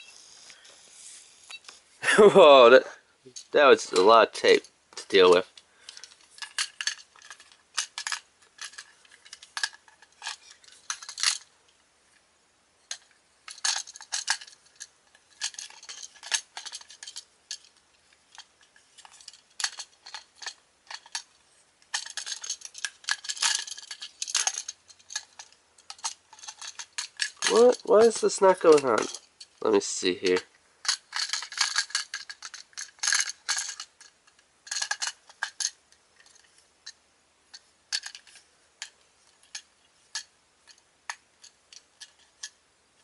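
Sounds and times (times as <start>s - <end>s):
plastic toy parts clicking: 3.3s - 11.5s, 12.9s - 29.6s, 30.2s - 42.6s.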